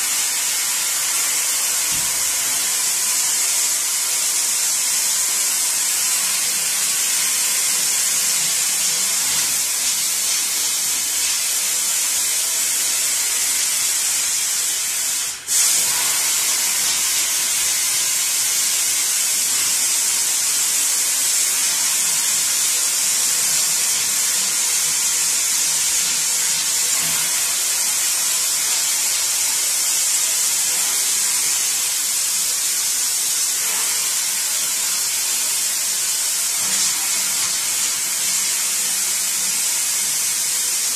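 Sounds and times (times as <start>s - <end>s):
water spraying into steel sink: 0.0s - 40.9s.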